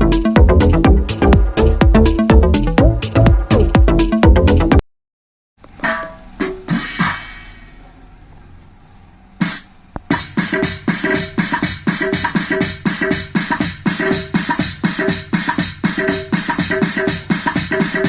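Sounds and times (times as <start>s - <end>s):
electronic drum hits: 0.0s - 4.8s, 5.8s - 7.7s, 9.4s - 18.0s.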